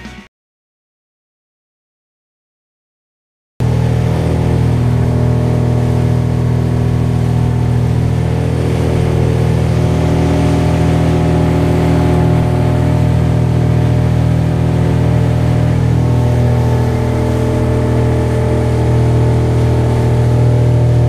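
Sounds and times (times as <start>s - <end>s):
outboard motor running: 3.6s - 21.0s.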